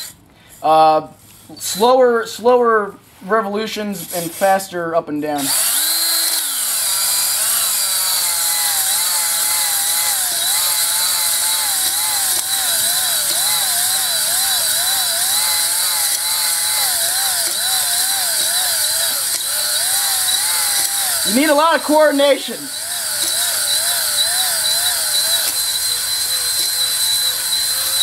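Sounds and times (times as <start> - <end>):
drill whine: 5.4 - 28.0.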